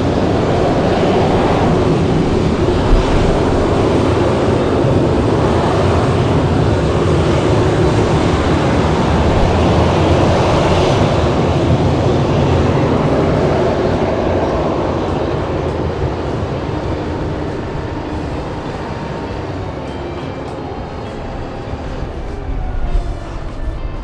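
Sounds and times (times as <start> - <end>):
jet airliner engines running: 0.0 - 24.0.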